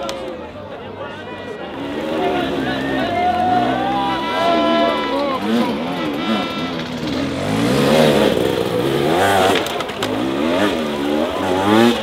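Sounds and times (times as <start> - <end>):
dirt bike engine revving: 1.6 - 12.0.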